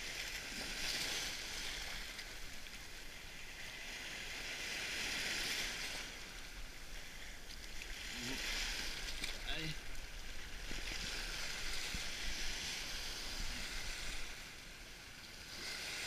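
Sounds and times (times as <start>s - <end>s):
surf washing over rocks: 0.0s - 16.0s.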